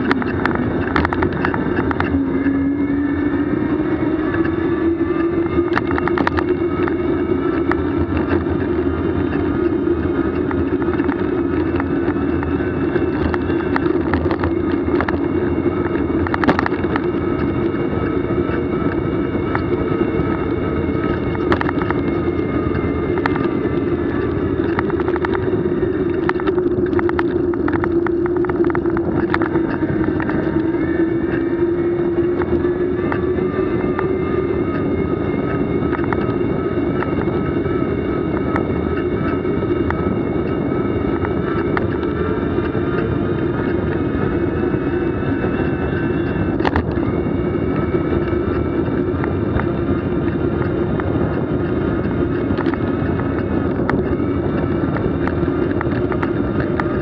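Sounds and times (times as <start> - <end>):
clicks and rattles: 0.0 - 2.6, 3.6 - 57.0
vehicle running hum: 0.0 - 57.0.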